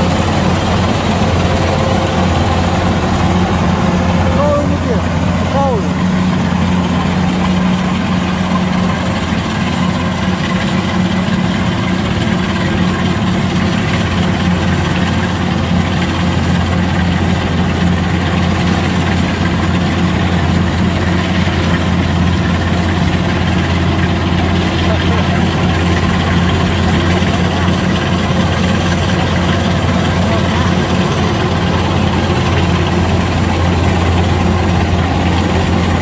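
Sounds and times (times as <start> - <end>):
combine harvester diesel engine hum: 0.0 - 36.0.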